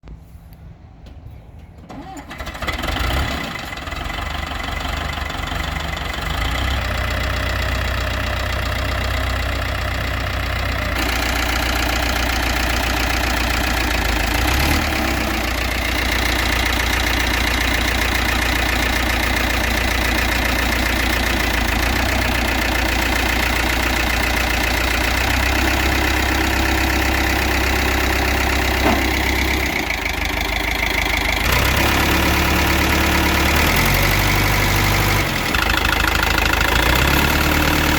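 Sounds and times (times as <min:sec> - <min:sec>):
diesel engine idling: 0:00.7 - 0:37.9.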